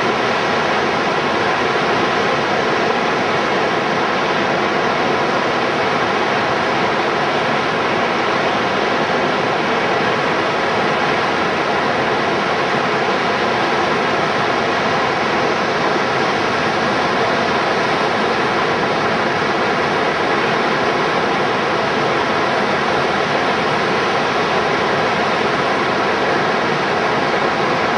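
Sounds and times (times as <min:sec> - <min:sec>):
river water rushing through rapids: 0:00.0 - 0:27.9.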